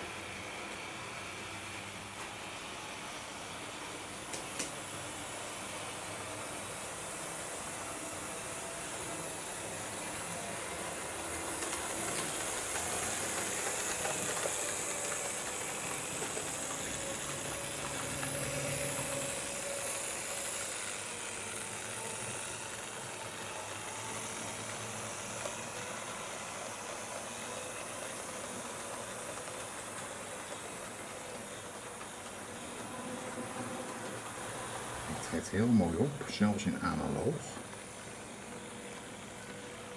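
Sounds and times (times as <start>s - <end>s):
faint electric motor whine: 0.0s - 39.9s
wheels rumbling and hissing on track: 0.0s - 39.9s.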